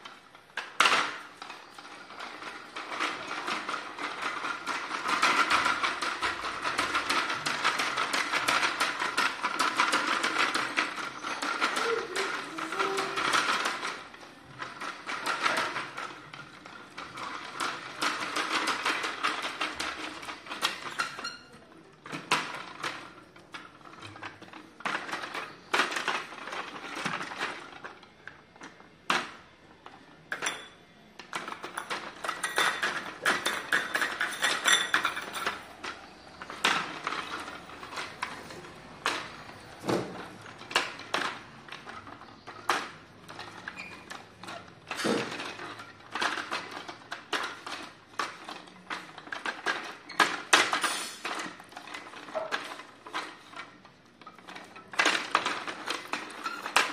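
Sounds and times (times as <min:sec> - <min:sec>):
plastic toy dog clattering: 0:00.0 - 0:56.9.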